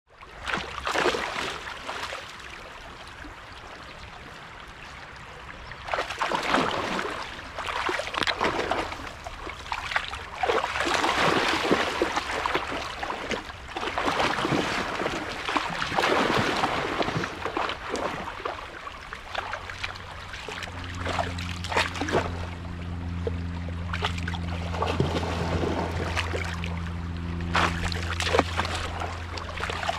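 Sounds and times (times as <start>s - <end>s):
running stream: 0.1s - 29.9s
low steady hum: 0.2s - 29.9s
dogs splashing through water: 0.3s - 2.6s, 5.8s - 29.9s.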